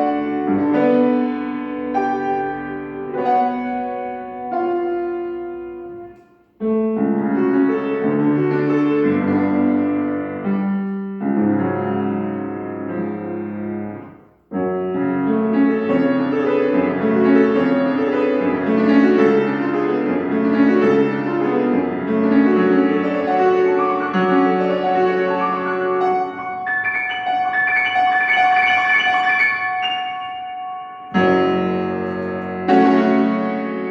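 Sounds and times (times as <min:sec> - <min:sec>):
solo piano classical piece: 0:00.0 - 0:33.9.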